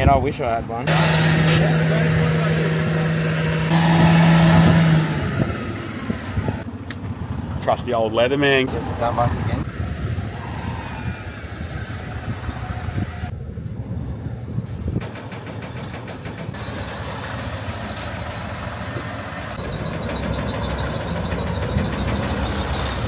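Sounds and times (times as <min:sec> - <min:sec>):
truck engine rumbling: 0:00.7 - 0:23.0.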